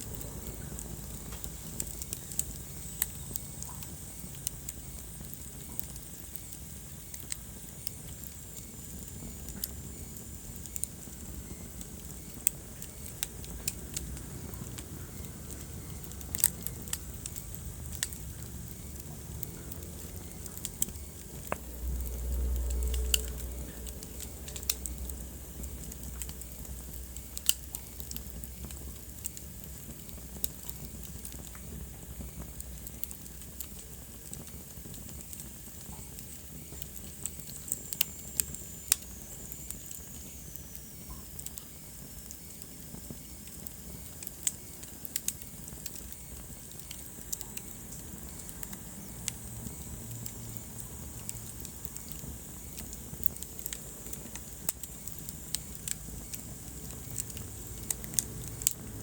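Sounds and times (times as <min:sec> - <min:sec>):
steady hiss and low rumble: 0:00.0 - 0:59.0
wood fire crackling: 0:00.0 - 0:59.0.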